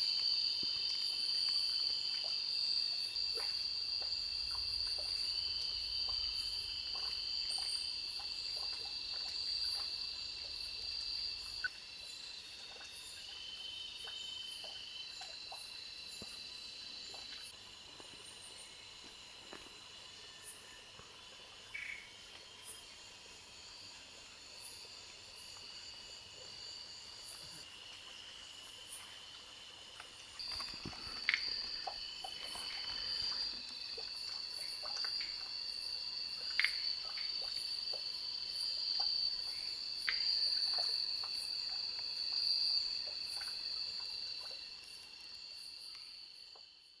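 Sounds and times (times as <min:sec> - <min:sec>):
insect chirps and clicks: 0:00.0 - 0:47.0
insect trill: 0:00.0 - 0:47.0.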